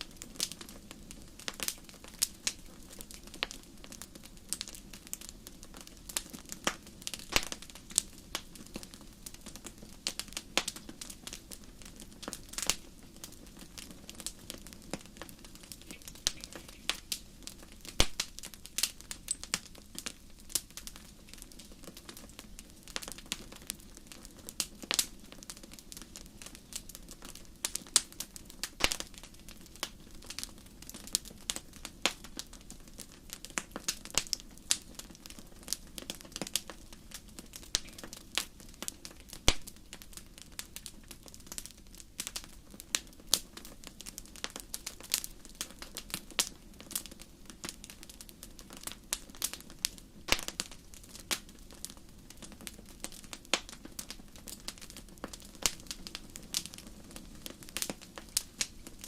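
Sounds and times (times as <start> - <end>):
fire pops and snaps: 0.0 - 59.0
low steady flame noise: 0.0 - 59.0.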